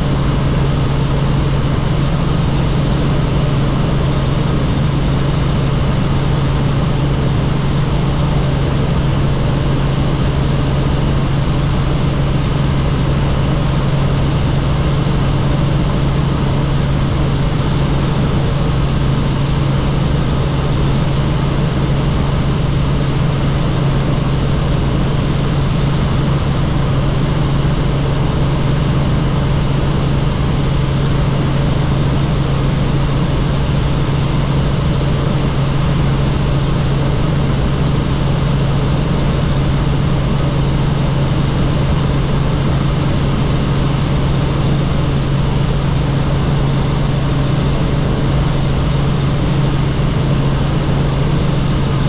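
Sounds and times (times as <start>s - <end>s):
helicopter drone: 0.0s - 52.0s.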